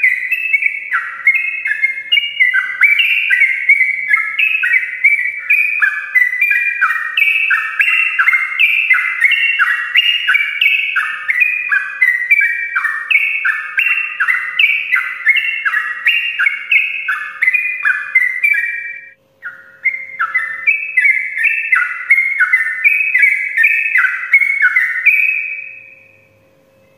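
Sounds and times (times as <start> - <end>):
bulbul singing rapid notes: 0.0 - 26.2.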